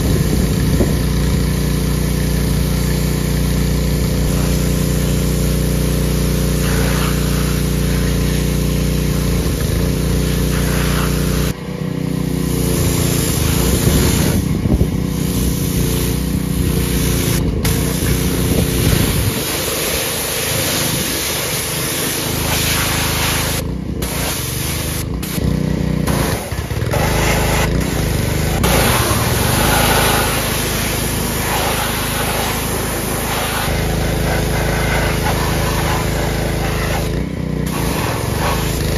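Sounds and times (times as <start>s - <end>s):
pressure washer motor humming: 0.0s - 38.9s
water spray hissing: 2.2s - 11.6s, 12.3s - 14.5s, 15.1s - 25.4s, 26.1s - 38.9s.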